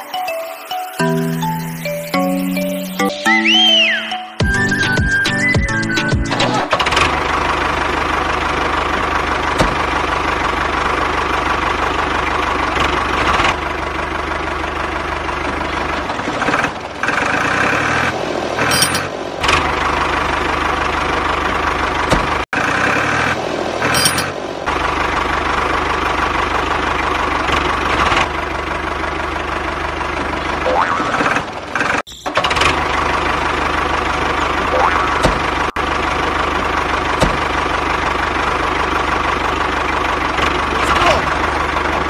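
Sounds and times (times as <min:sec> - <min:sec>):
engine idling with knock: 0:04.4 - 0:42.0.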